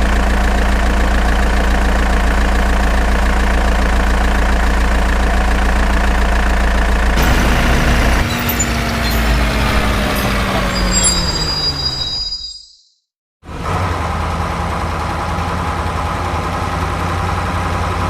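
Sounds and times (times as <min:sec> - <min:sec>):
vehicle engine idling: 0:00.0 - 0:11.6, 0:13.5 - 0:18.0.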